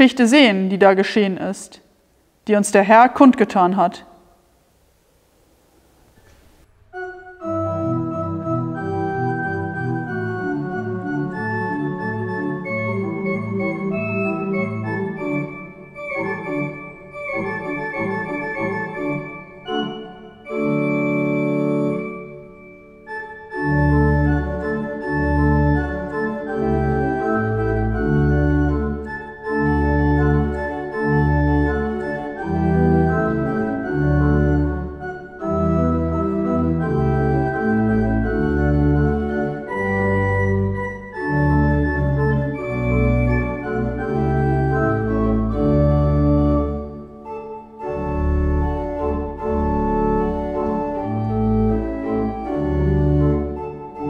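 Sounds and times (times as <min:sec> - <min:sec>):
deep organ pedal bass notes: 0:06.8 - 0:54.0
pipe organ playing: 0:06.8 - 0:54.0.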